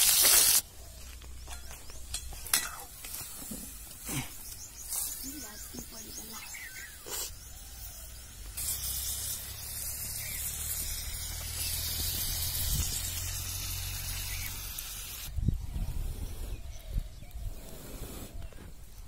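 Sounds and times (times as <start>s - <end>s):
tomatoes sizzling in oil: 0.0s - 15.3s.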